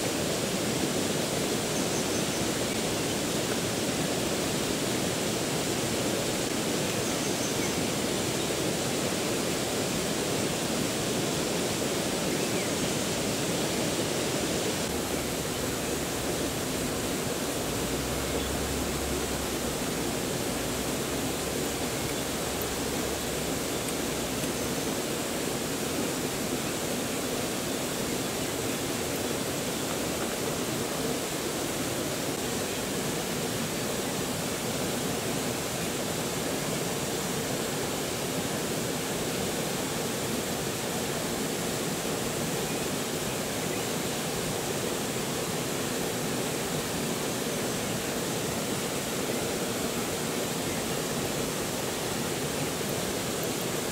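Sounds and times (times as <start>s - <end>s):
river rushing over stones: 0.0s - 53.9s.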